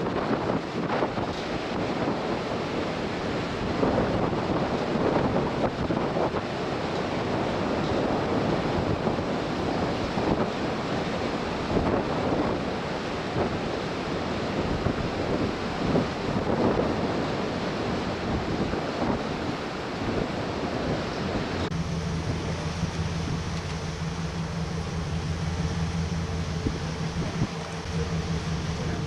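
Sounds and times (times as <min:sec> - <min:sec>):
sea water rushing: 0:00.0 - 0:29.0
wind buffeting microphone: 0:00.0 - 0:29.0.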